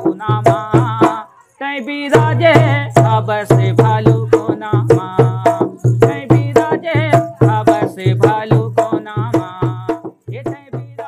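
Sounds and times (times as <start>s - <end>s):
percussive beat: 0.0s - 1.2s, 2.1s - 11.0s
man singing rhythmic syllables: 0.0s - 11.0s.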